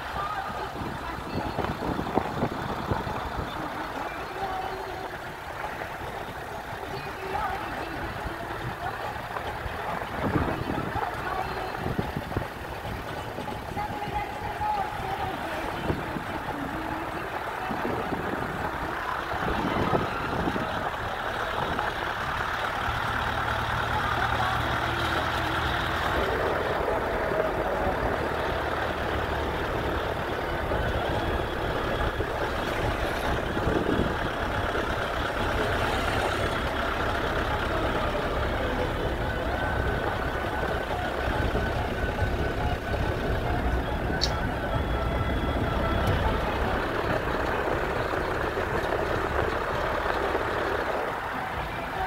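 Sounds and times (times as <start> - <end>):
road noise: 0.0 - 52.0
vehicle engine hum: 0.0 - 52.0.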